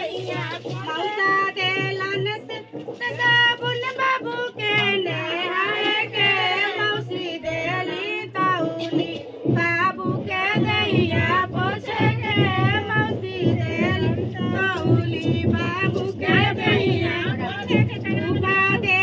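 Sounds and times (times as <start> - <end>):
women singing folk song: 0.0 - 19.0.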